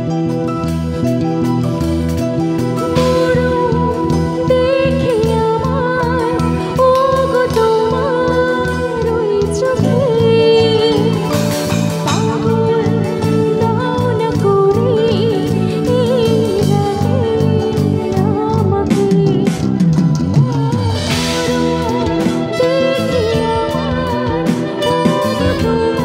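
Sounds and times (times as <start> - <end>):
backing band playing: 0.0 - 26.0
woman singing into microphone: 2.8 - 26.0.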